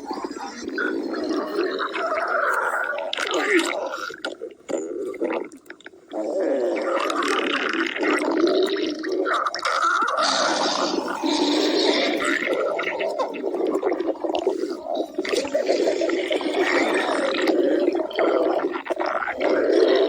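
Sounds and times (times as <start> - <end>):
cartoon stomach growling: 0.0 - 20.0.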